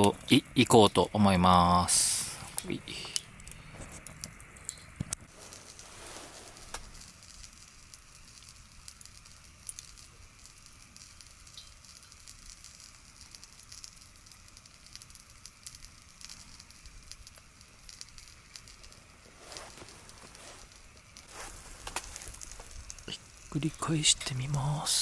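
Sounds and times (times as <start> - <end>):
campfire crackling and popping: 0.0 - 25.0
fish sizzling on grill: 0.0 - 25.0.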